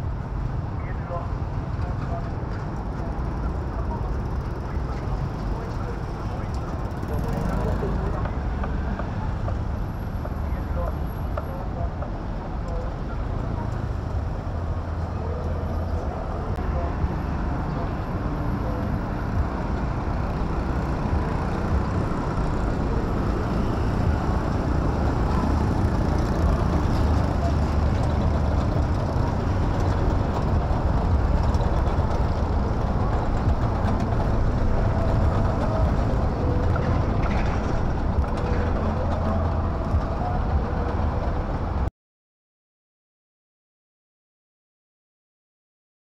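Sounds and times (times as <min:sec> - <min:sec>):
passing traffic rumble: 0:00.0 - 0:41.9.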